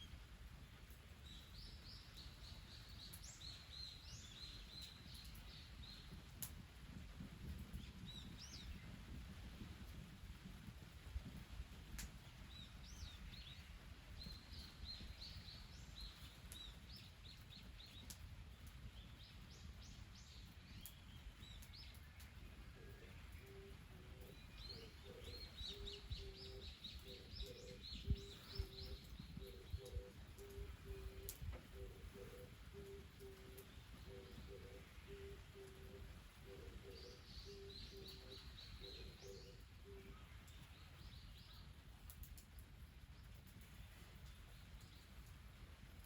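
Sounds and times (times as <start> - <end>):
small birds chirping: 0.8 - 6.6, 12.0 - 45.3.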